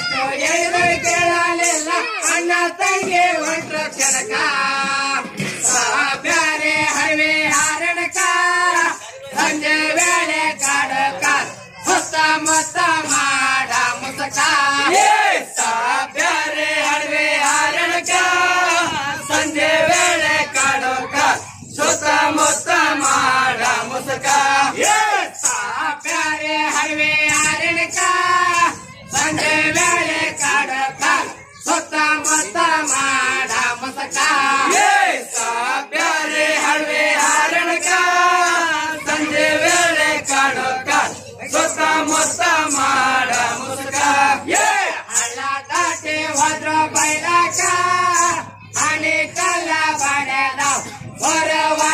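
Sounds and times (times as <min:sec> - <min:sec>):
group singing folk song in chorus: 0:00.1 - 0:51.9.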